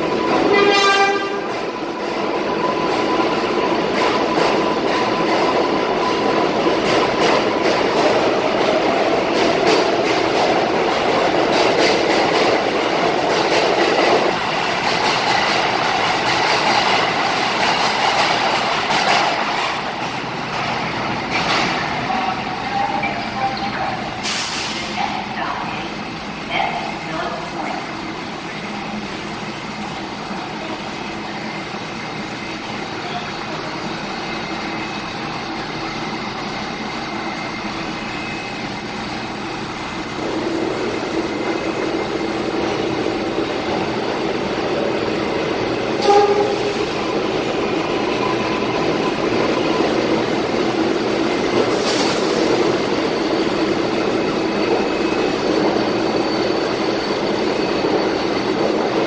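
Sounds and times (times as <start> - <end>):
subway train rumble and hum: 0.0 - 59.0
train arriving on track: 0.0 - 59.0.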